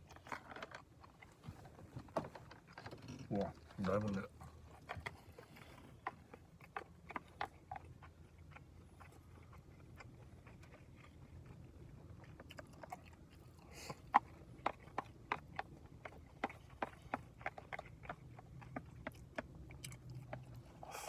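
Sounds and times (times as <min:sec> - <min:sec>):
man chewing with wet mouth clicks: 0:00.0 - 0:21.0.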